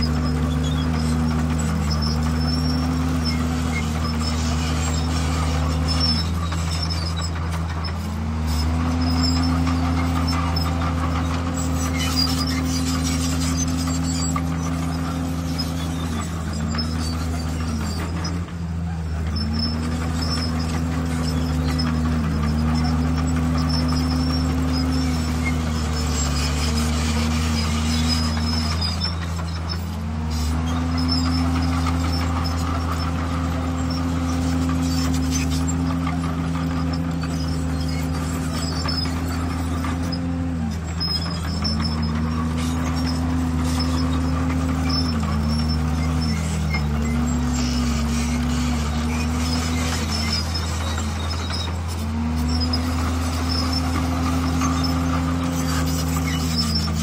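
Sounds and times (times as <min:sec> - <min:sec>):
bulldozer diesel engine running: 0:00.0 - 0:57.0
faint high squeaks: 0:00.0 - 0:57.0.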